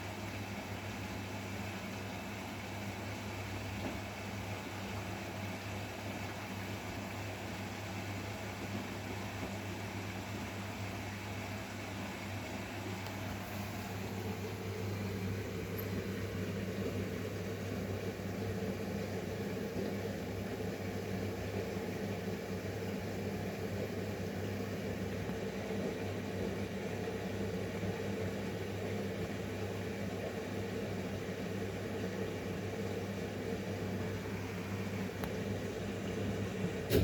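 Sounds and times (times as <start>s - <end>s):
washing machine humming: 0.0s - 37.0s.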